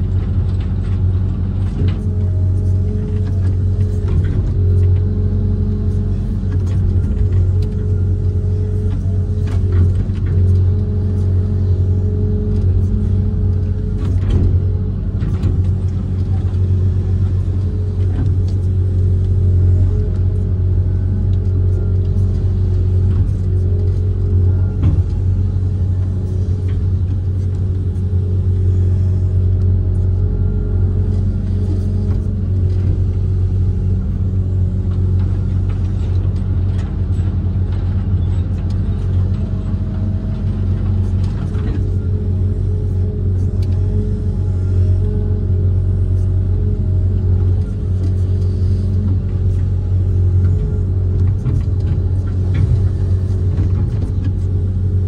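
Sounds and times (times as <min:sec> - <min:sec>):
diesel engine low drone: 0:00.0 - 0:55.0.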